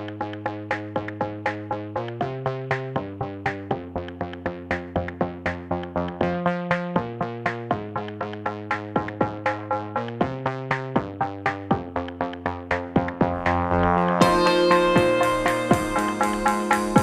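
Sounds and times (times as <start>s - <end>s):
electronic synthesizer music: 0.0s - 17.0s.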